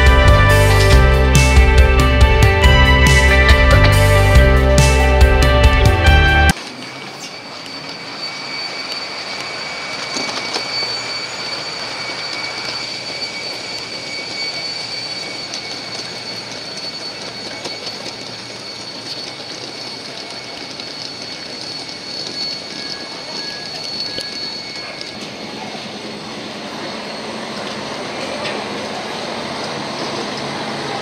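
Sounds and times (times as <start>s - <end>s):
aircraft turbine whine: 0.0s - 31.0s.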